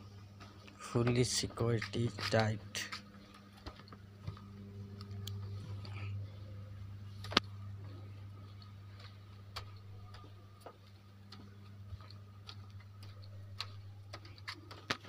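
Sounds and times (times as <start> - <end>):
low electrical hum: 0.0 - 15.0
footstep clicks on hard floor: 0.4 - 5.5, 7.2 - 15.0.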